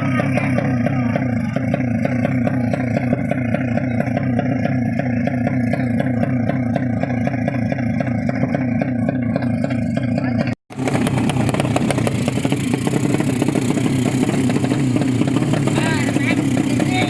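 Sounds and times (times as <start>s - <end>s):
motorcycle engine running loudly: 0.0s - 17.0s.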